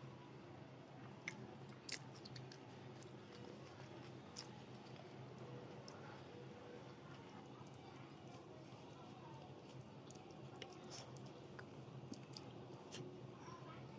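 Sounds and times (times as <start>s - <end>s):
chewing food: 1.1s - 13.3s.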